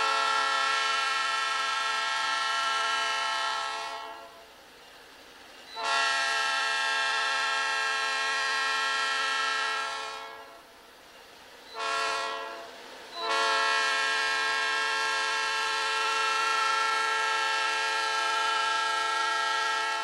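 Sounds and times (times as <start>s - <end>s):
locomotive air horn blasts: 0.0s - 4.5s, 5.8s - 10.7s, 11.7s - 20.0s.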